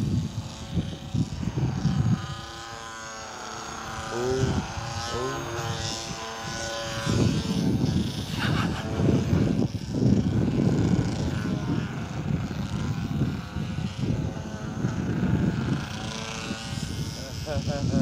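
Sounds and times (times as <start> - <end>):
model airplane motor droning: 0.0 - 18.0
wind rumble on microphone: 0.0 - 18.0.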